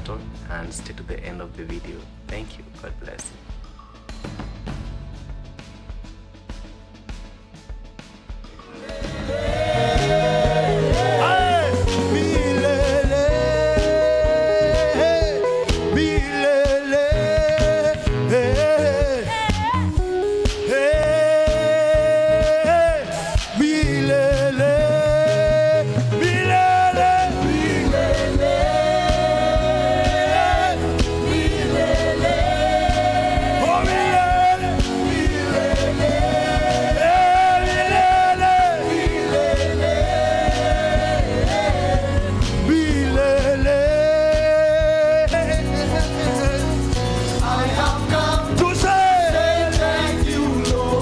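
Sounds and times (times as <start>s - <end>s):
band with bass and drums: 0.0s - 51.0s.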